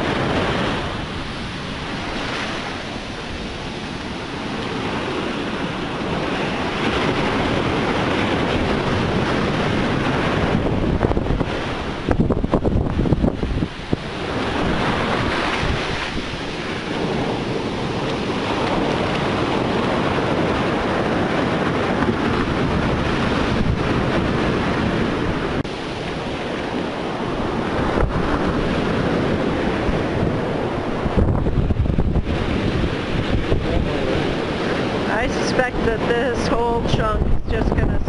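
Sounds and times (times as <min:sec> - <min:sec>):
storm surf washing onto beach: 0:00.0 - 0:38.0
wind buffeting microphone: 0:00.0 - 0:38.0.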